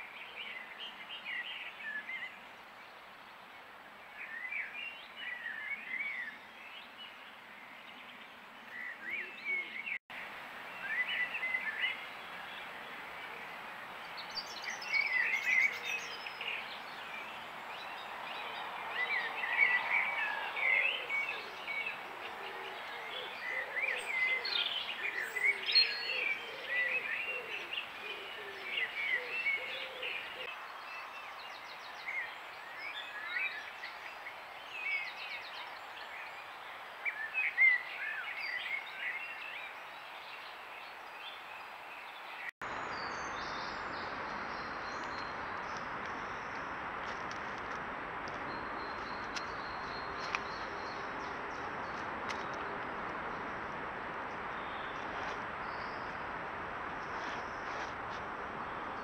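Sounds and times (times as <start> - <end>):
songbirds chirping: 0.0 - 59.0
background hiss: 9.9 - 59.0.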